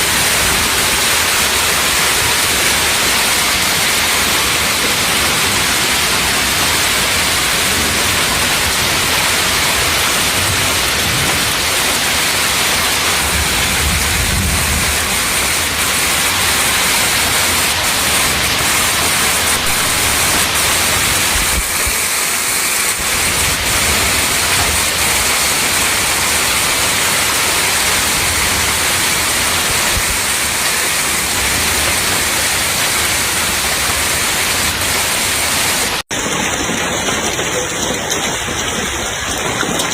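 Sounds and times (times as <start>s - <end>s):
wind rumbling on microphone: 0.0s - 32.9s
heavy rain hissing: 0.0s - 39.9s.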